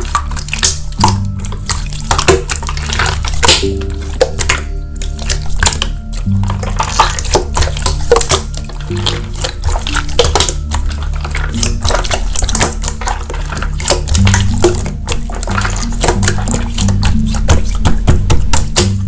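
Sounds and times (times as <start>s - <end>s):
background music with low bass: 0.0s - 19.0s
slime squishing and clicking: 0.0s - 19.0s.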